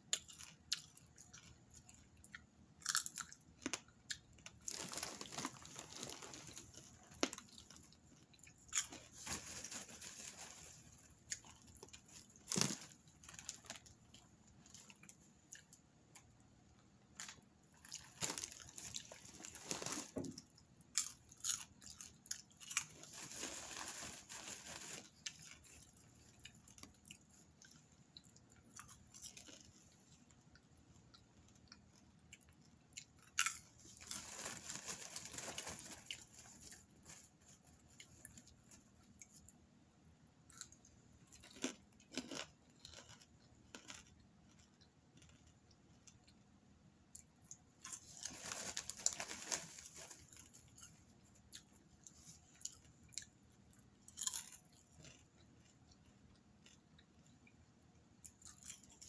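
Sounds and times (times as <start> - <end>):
popcorn crunching while chewed: 0.0 - 16.4, 17.1 - 39.6, 40.5 - 46.4, 47.1 - 57.6, 58.2 - 59.0.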